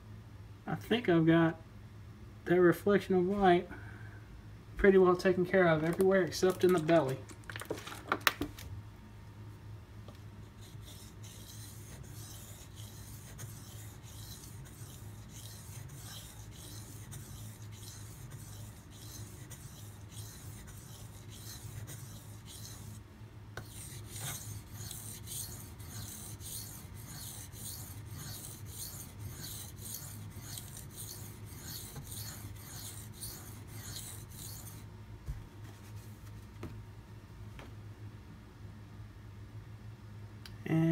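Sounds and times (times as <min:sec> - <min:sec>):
steady low hum: 0:00.0 - 0:07.5, 0:08.5 - 0:40.9.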